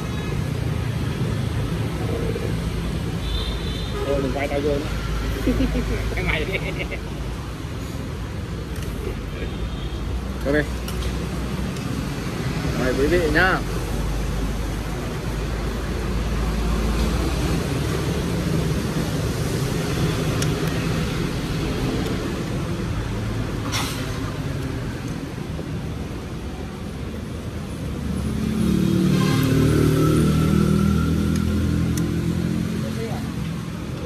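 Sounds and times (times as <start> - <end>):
rumble of passing vehicles: 0.0 - 34.0.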